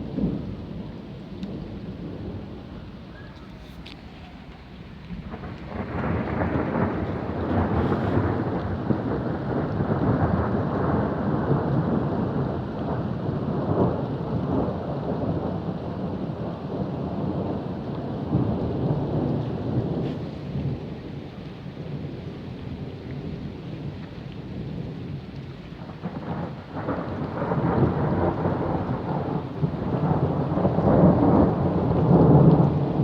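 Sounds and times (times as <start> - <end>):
steady rain: 0.0 - 33.0
thunder rumbling: 0.0 - 33.0.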